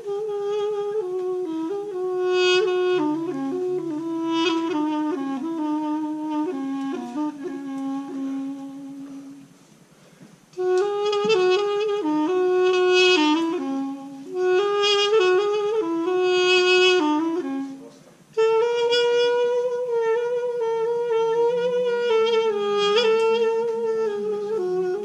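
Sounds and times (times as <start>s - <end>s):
folk melody on wind pipe: 0.0s - 9.7s, 10.5s - 25.0s.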